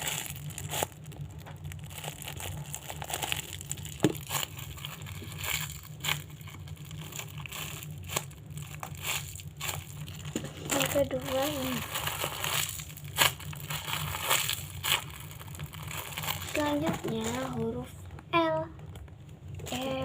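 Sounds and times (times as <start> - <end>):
plastic packaging crinkling: 0.0 - 20.0
steady low hum: 0.0 - 20.0.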